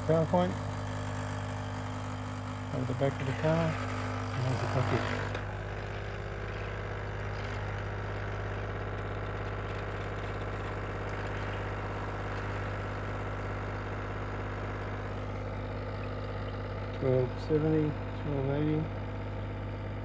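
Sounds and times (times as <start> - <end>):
coffee machine pump buzzing: 0.0 - 20.0.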